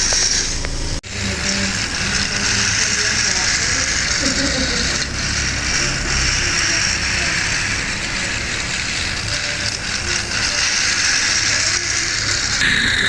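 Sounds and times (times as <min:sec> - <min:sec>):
toy train motor whirring: 0:00.0 - 0:13.0.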